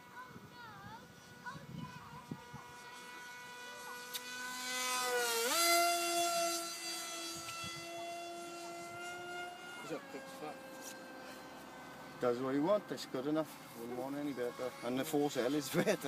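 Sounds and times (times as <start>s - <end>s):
electric motor and propeller whining: 0.0s - 16.0s.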